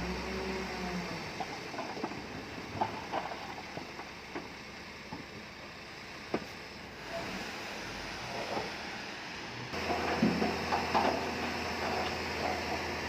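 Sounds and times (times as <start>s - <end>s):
bulldozer engine rumble: 0.0s - 13.0s.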